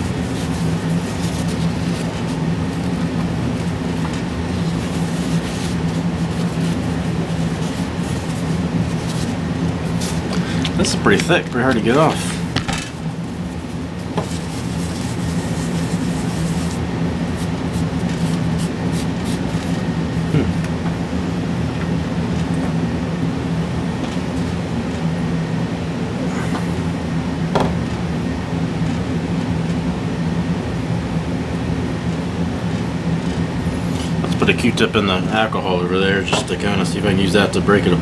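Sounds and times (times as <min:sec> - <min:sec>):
machine hum: 0:00.0 - 0:38.0.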